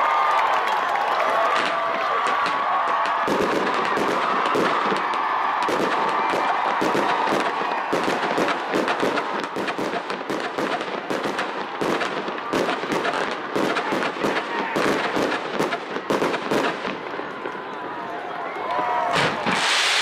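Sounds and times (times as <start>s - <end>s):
fireworks cracking and banging: 0.0s - 20.0s.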